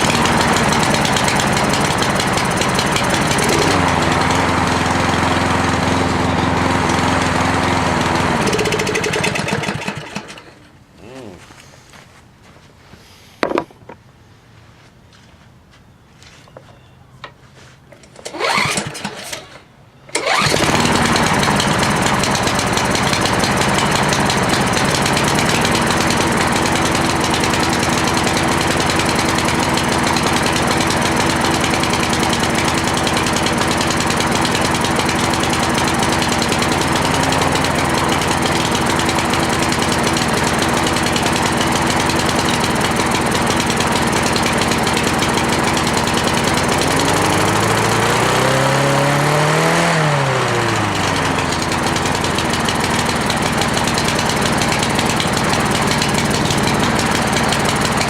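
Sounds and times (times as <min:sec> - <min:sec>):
lawn mower engine running: 0:00.0 - 0:10.8, 0:17.9 - 0:58.0.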